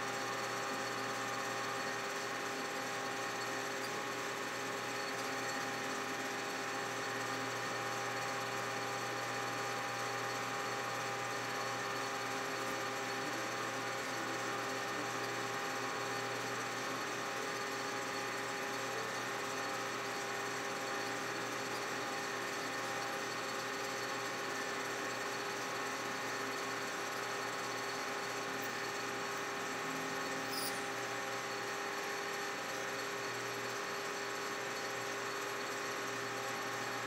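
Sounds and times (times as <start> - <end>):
metal lathe humming: 0.1 - 37.0.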